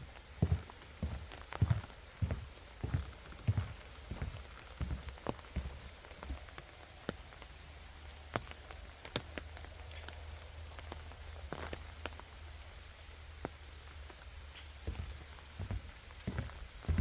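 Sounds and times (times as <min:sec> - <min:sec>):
raindrops ticking on leaves: 0:00.0 - 0:17.0
soft steady rain hiss: 0:00.0 - 0:17.0.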